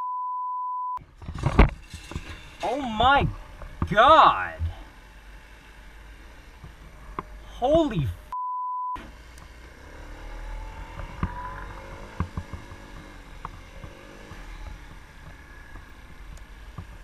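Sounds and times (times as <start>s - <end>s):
motorcycle engine pulling away: 1.0s - 7.6s, 9.0s - 17.0s.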